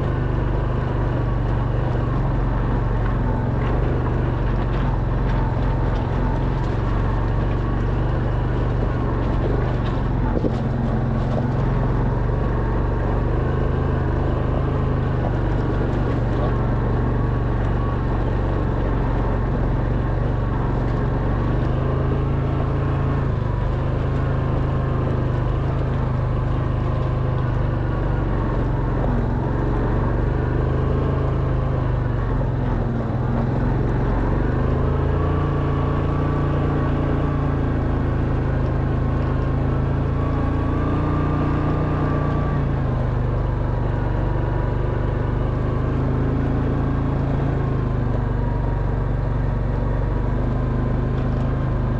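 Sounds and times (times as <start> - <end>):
quad bike engine running: 0.0 - 51.9.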